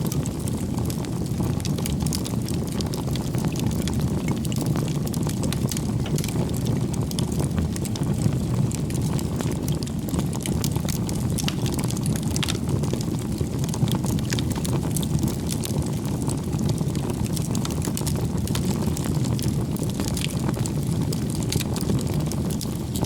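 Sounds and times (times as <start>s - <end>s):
bonfire crackling: 0.0s - 23.0s.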